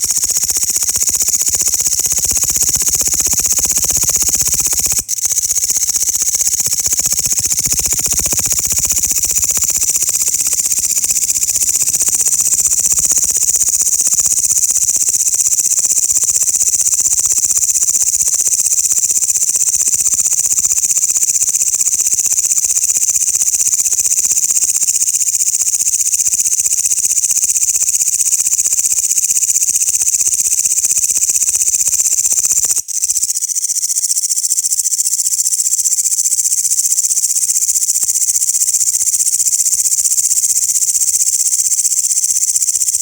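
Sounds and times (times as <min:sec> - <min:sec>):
grasshoppers stridulating: 0:00.0 - 0:43.0.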